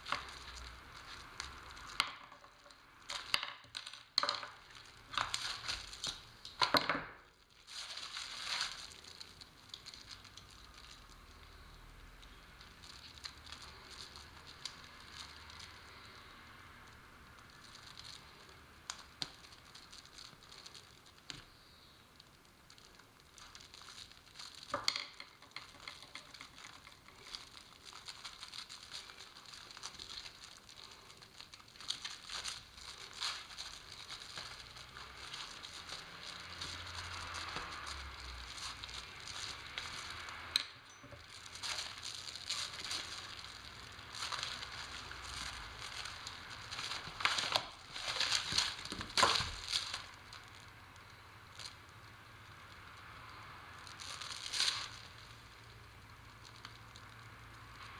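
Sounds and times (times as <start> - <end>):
plastic sheeting crinkling: 0.0 - 57.9.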